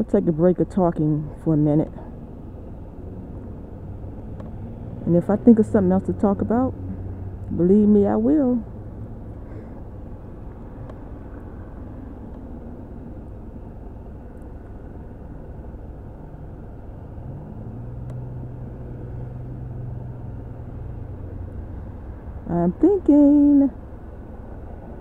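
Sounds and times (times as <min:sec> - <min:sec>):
road traffic rumbling: 0:00.0 - 0:25.0.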